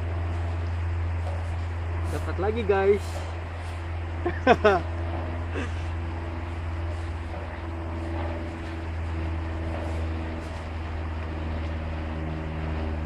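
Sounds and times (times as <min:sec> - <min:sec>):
engine humming: 0:00.0 - 0:13.0
steady tones: 0:00.0 - 0:13.0.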